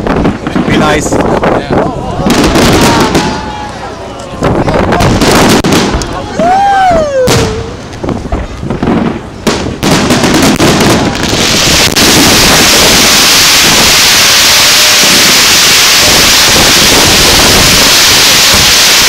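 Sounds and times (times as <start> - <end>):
fireworks bangs: 0.0 - 19.0
fireworks crackling: 0.0 - 19.0
loud fireworks hiss: 0.0 - 19.0.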